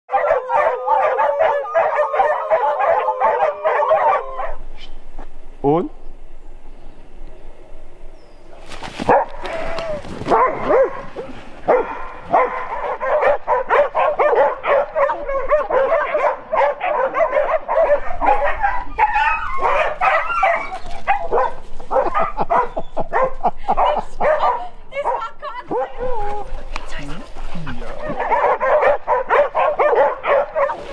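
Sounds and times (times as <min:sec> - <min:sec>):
dogs barking and yipping: 0:00.1 - 0:04.6, 0:09.0 - 0:30.9.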